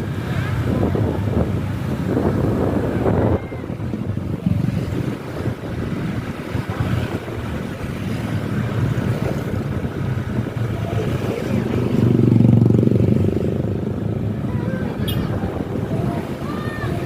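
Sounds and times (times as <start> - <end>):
vehicle engine and road rumble: 0.0 - 17.0
wind buffeting microphone: 0.0 - 17.0.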